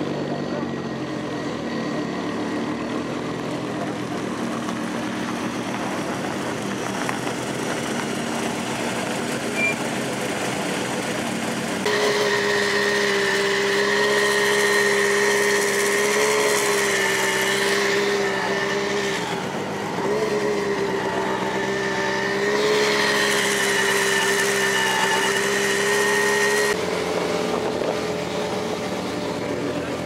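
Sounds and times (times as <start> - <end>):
rally car engines running: 0.0 - 30.0.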